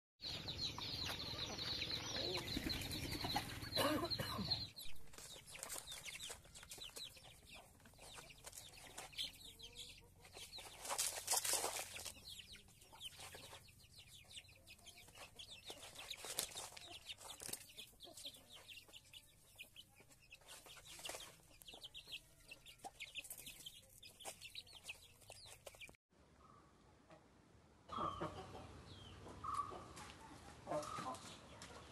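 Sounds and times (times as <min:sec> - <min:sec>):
chickens clucking: 0:00.2 - 0:26.0, 0:27.9 - 0:31.9.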